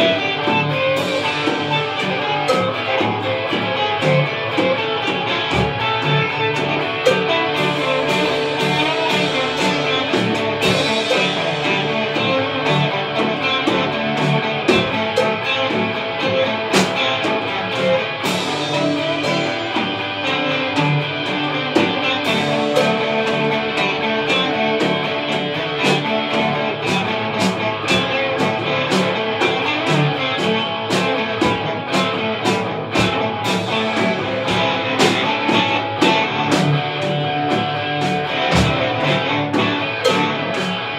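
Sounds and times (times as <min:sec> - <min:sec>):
drum kit steady beat: 0:00.0 - 0:40.9
electric guitars playing rock: 0:00.0 - 0:40.9.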